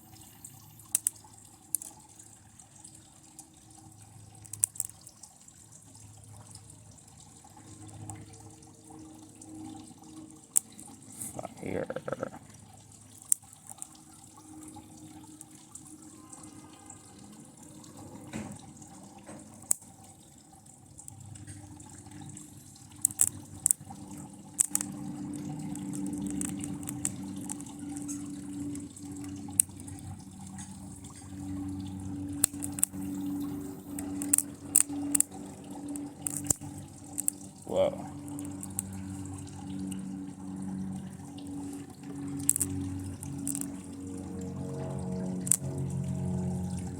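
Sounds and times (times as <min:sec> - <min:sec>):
low steady hum: 0:00.0 - 0:05.0, 0:05.8 - 0:46.9.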